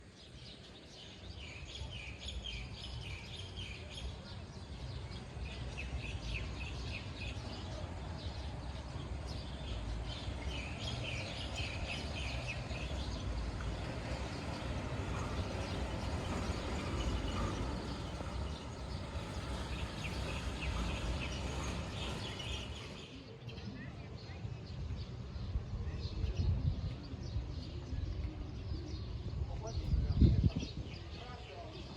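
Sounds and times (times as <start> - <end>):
small birds chirping: 0.0 - 31.9
freight train rumbling: 0.6 - 31.9.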